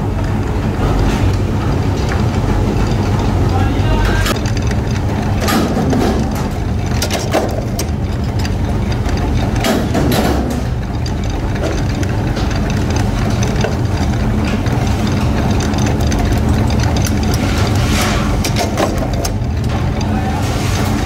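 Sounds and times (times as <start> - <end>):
forging press drone: 0.0 - 21.0.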